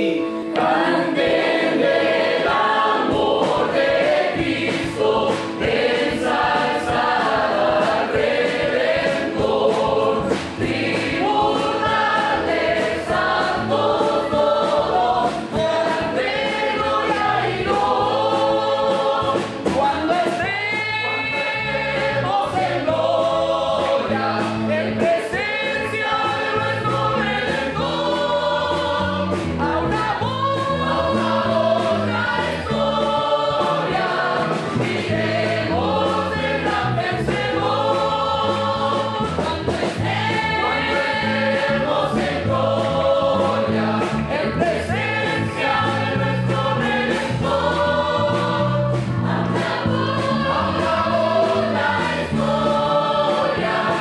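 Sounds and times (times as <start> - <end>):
mixed choir singing a hymn: 0.0 - 54.0.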